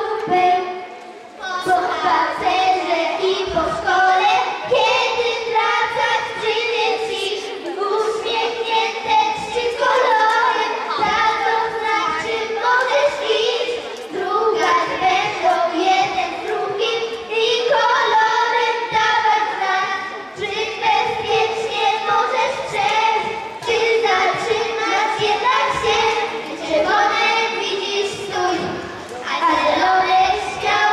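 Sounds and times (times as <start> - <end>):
children singing: 0.0 - 30.9.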